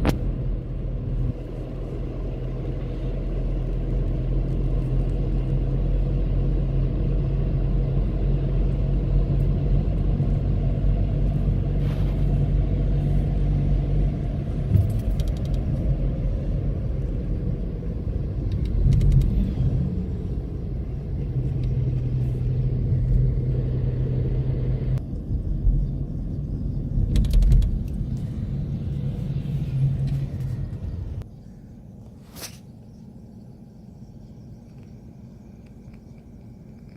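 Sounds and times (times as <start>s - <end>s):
car engine hum: 0.0s - 36.9s
road rumble: 0.0s - 36.9s.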